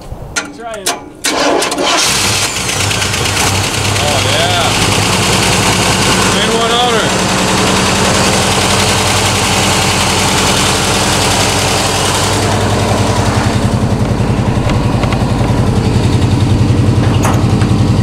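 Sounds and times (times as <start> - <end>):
car engine idling: 1.9 - 18.0.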